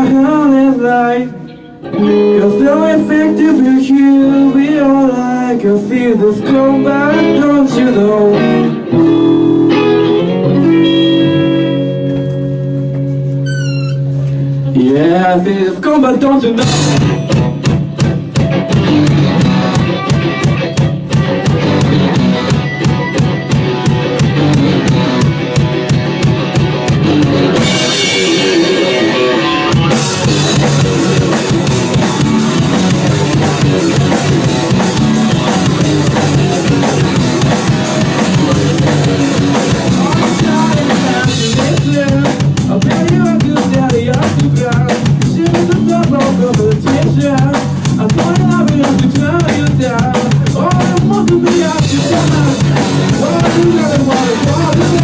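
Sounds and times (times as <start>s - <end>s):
rock band playing: 0.0s - 55.0s
drum kit: 1.8s - 55.0s.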